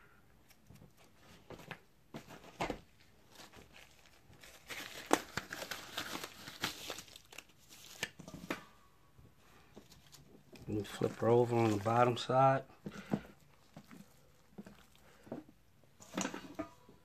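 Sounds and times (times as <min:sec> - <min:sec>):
material crinkling and rustling: 0:00.6 - 0:08.8, 0:09.4 - 0:17.0.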